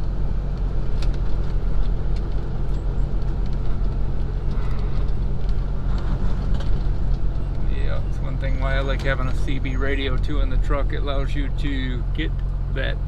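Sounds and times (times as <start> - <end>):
small rattles: 0.0 - 10.6
diesel truck engine running: 0.0 - 13.0
road noise: 0.0 - 13.0.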